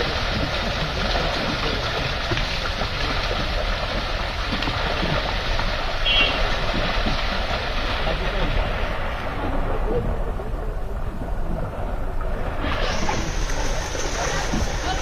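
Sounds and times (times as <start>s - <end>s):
water rushing and gurgling: 0.0s - 15.0s.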